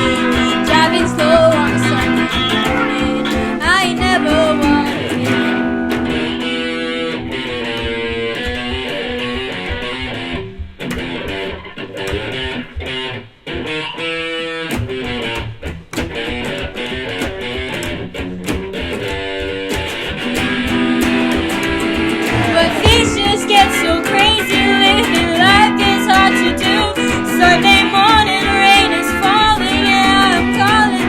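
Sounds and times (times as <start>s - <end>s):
electric guitar: 0.0s - 31.0s.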